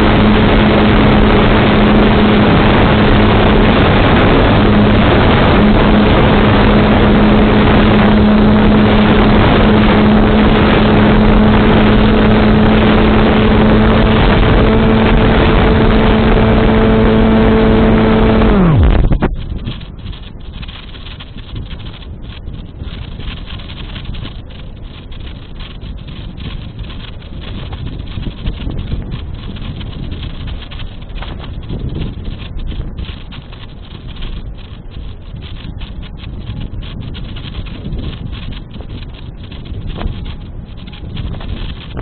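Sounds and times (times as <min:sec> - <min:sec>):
electric motor and propeller: 0:00.0 - 0:42.0
wind noise on microphone: 0:00.0 - 0:42.0.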